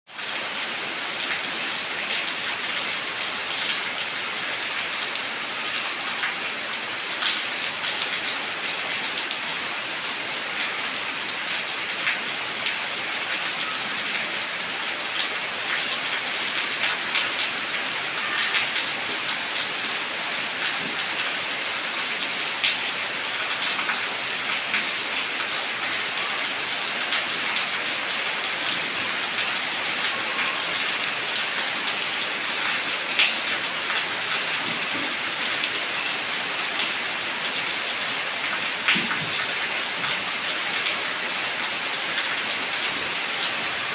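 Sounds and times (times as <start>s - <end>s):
rain falling on puddle: 0.1s - 43.9s.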